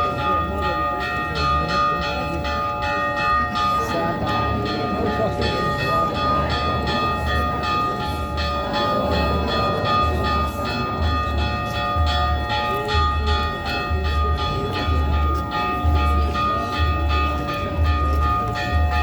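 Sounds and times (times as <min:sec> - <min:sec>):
bells ringing: 0:00.0 - 0:19.0.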